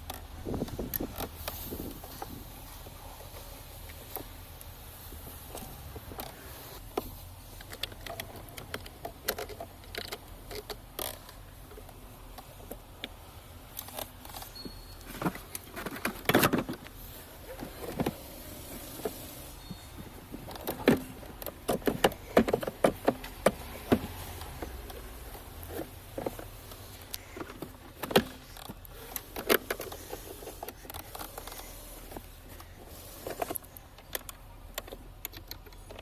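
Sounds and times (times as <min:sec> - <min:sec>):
hand tools clicking and knocking: 0:05.5 - 0:36.0.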